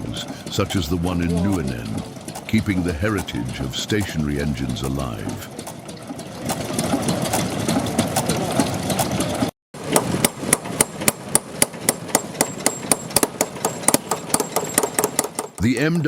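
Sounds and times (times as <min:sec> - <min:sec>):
engine knocking regularly: 0:00.0 - 0:16.0
engine running steadily: 0:00.0 - 0:16.0.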